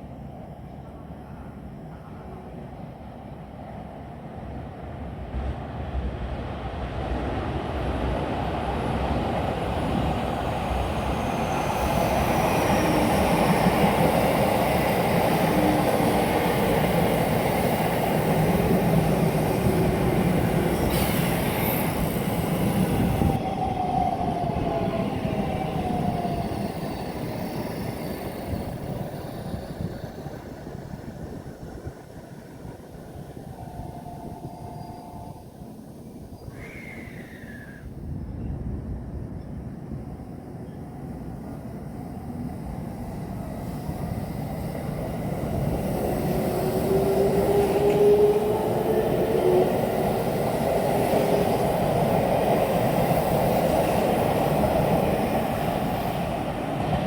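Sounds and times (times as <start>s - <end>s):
electric train passing: 4.9s - 57.0s.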